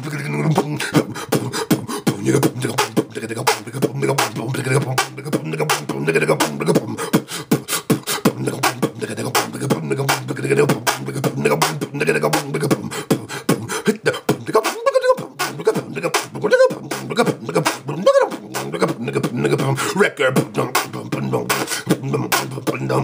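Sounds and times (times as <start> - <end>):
man beatboxing: 0.0 - 23.0
short pitched vocal notes: 0.0 - 23.0.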